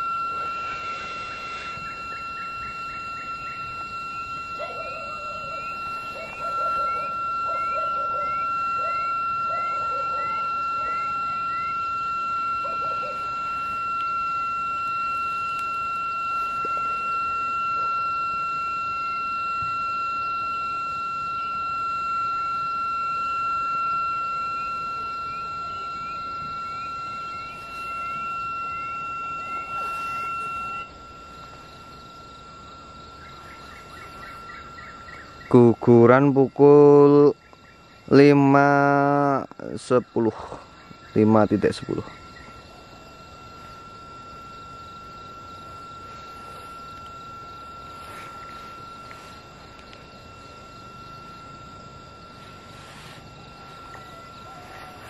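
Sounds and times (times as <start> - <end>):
short rising chirps: 0.0 - 35.8, 42.0 - 55.0
constant hiss: 0.0 - 55.0
night insect chorus: 0.0 - 55.0
steady high-pitched tone: 0.0 - 55.0.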